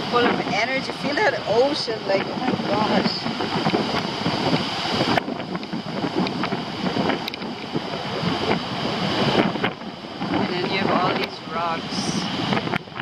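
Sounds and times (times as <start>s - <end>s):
ocean surf rushing: 0.0s - 13.0s
wind buffeting microphone: 0.0s - 13.0s.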